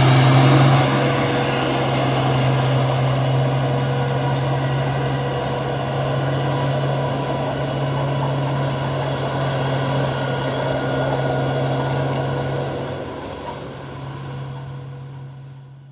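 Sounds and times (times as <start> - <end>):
diesel engine droning: 0.0 - 15.9.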